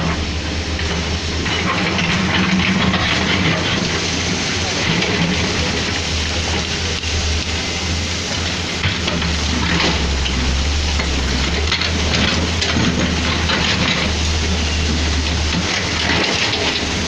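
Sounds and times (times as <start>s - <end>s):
diesel truck engine running: 0.0s - 17.0s
soil and stones pouring: 0.4s - 17.0s.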